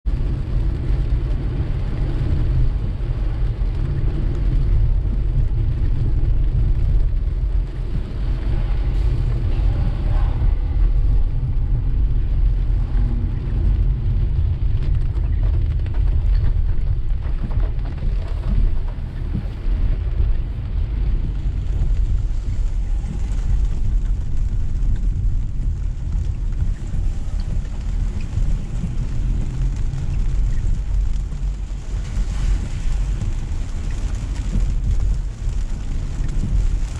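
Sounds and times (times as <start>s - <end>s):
rain hissing on car: 0.0s - 36.9s
tyres on wet road rumbling: 0.1s - 36.9s.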